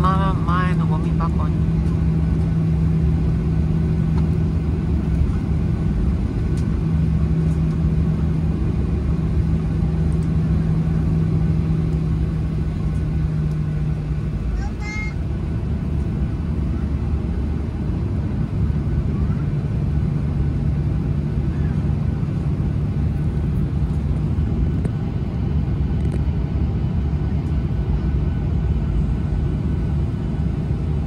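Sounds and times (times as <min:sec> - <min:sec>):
jet engines rumbling in cabin: 0:00.0 - 0:31.0.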